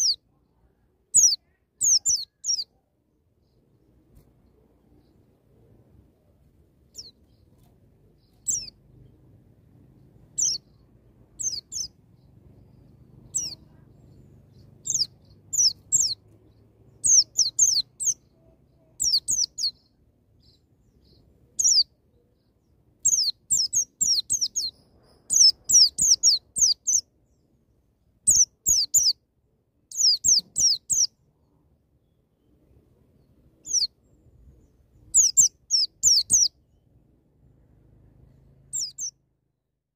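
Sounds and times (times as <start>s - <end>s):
bird high downward chirps: 0.0s - 0.4s, 1.0s - 2.8s, 3.4s - 27.6s, 28.3s - 29.2s, 29.9s - 31.3s, 32.4s - 37.0s, 38.2s - 39.2s.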